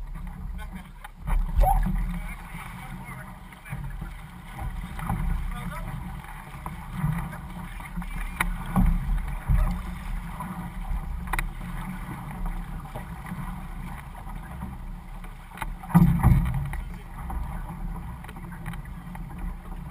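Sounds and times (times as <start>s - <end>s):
paddle splashes: 0.0s - 19.9s
water rushing along hull: 0.0s - 19.9s
wind rumble on microphone: 0.0s - 19.9s.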